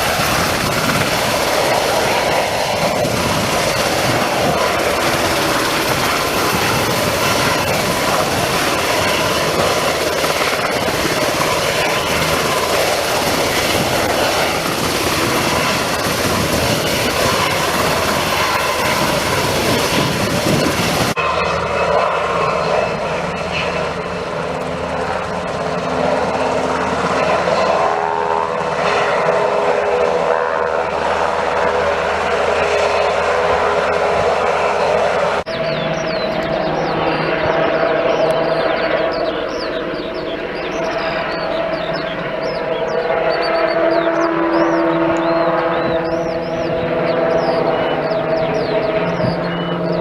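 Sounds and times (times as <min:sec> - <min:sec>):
helicopter engine and rotor noise: 0:00.0 - 0:50.0.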